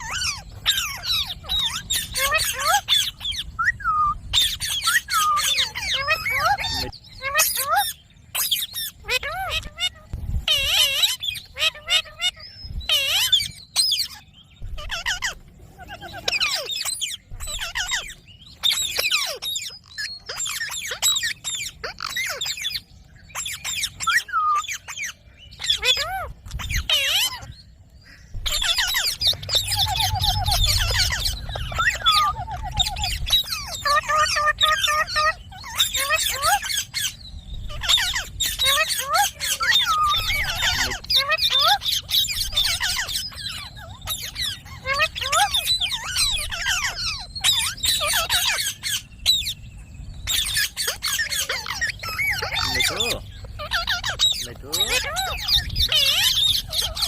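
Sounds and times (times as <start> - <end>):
parakeet chattering: 0.0 - 3.6, 4.3 - 27.5, 28.4 - 49.6, 50.2 - 57.0.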